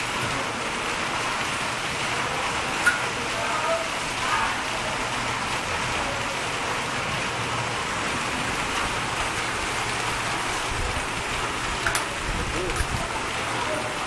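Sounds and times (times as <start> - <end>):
hail and rain falling: 0.0 - 14.0.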